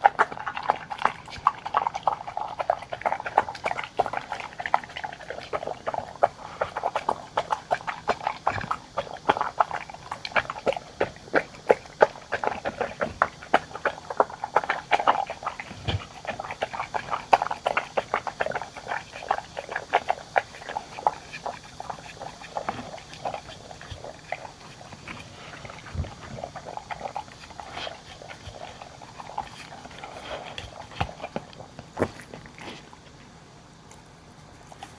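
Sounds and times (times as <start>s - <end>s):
dogs chewing and licking: 0.0s - 33.3s, 33.9s - 34.9s.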